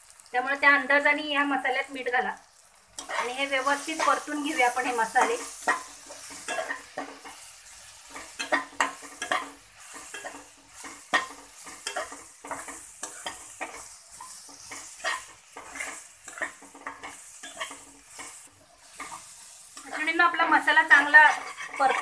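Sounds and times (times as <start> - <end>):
spices sizzling in oil: 0.0 - 22.0
metal spatula scraping a pan: 3.0 - 22.0.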